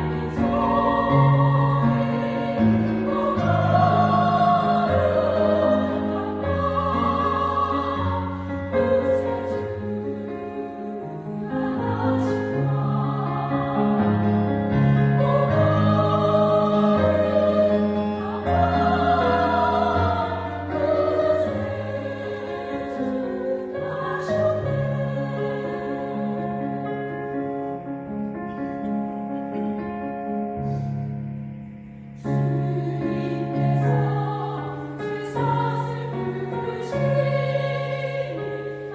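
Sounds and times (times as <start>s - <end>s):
choir singing in harmony: 0.0s - 28.6s, 32.2s - 38.9s.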